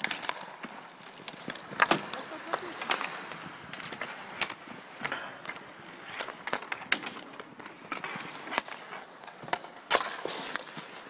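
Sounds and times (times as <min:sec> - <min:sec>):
hockey sticks and puck clacking: 0:00.0 - 0:11.0
skate wheels rolling on asphalt: 0:00.0 - 0:11.0.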